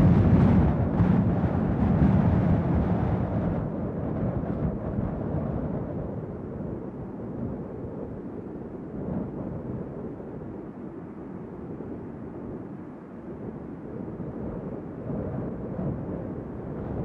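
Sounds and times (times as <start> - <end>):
wind blowing in gusts: 0.0 - 17.0.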